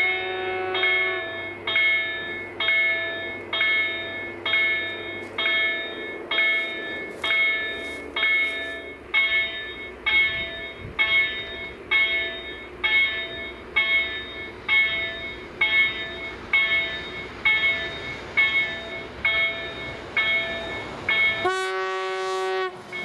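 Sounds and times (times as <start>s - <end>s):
level crossing warning bells: 0.0s - 23.0s.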